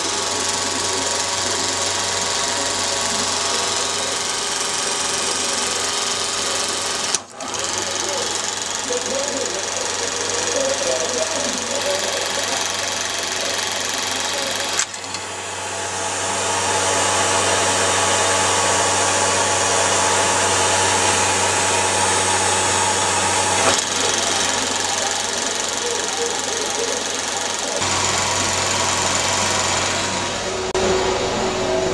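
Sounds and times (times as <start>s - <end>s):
film projector clattering: 0.0s - 31.0s.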